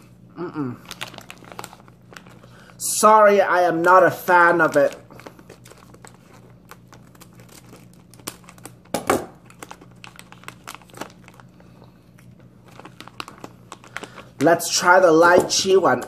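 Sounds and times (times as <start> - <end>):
plastic wrapper crinkling: 0.8 - 2.8, 3.8 - 16.0.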